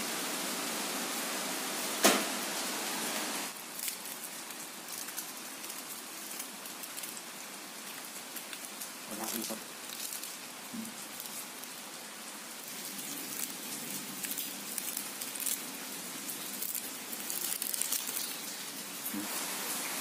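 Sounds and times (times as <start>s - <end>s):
charred leaves crackling and rustling: 0.0s - 20.0s
steady rain-like hiss: 0.0s - 20.0s.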